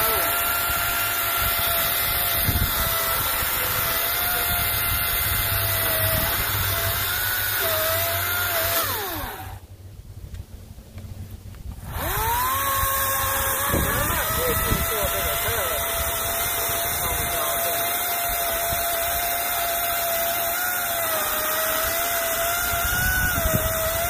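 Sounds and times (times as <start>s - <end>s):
electric chainsaw cutting log: 0.0s - 9.7s, 11.7s - 24.0s.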